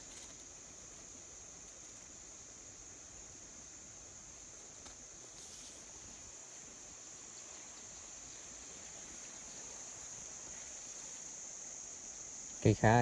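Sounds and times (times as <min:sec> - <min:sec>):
faint rustle: 0:00.0 - 0:12.7
insect chorus buzzing: 0:00.0 - 0:13.0.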